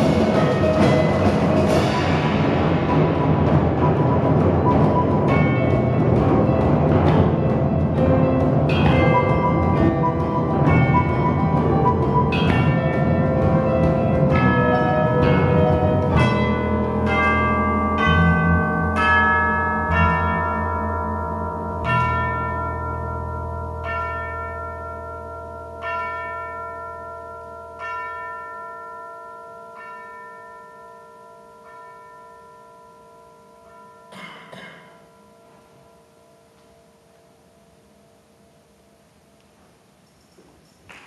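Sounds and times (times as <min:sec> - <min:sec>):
bell-like metal percussion ringing: 0:00.0 - 0:39.0.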